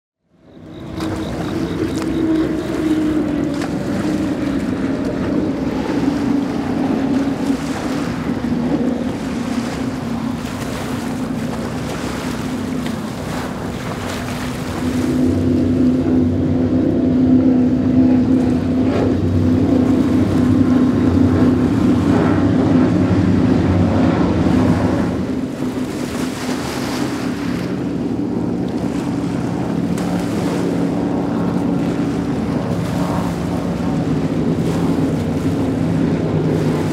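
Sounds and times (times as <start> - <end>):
powerboat engines droning: 0.2 - 36.9
water noise: 0.2 - 36.9
wind on microphone: 0.5 - 36.9.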